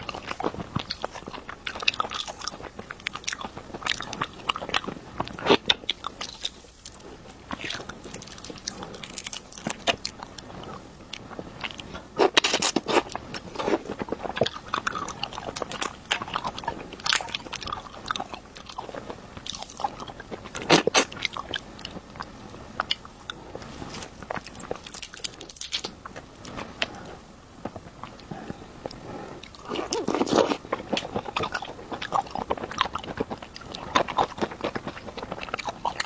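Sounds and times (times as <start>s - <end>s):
person crunching food: 0.0s - 36.0s.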